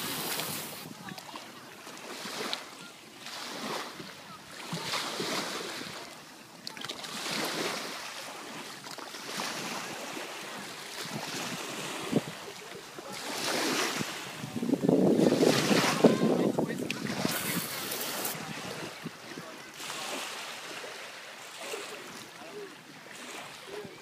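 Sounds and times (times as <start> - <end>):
small waves washing onto beach: 0.0 - 24.0.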